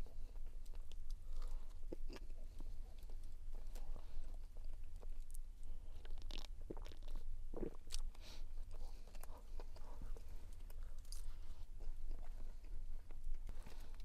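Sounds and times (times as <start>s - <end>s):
person chewing crunchy bread: 0.0s - 14.0s.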